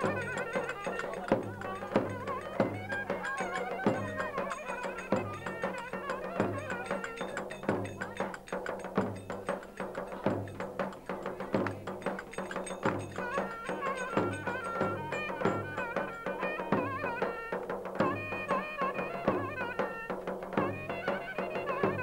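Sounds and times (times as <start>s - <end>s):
wind instrument melody: 0.0s - 22.0s.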